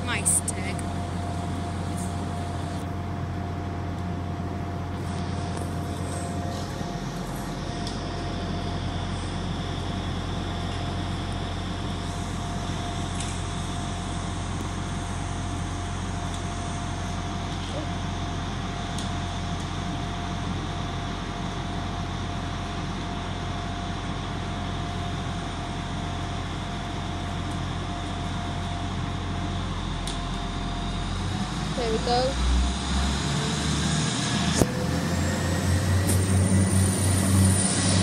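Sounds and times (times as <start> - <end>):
diesel train idling: 0.0 - 38.0.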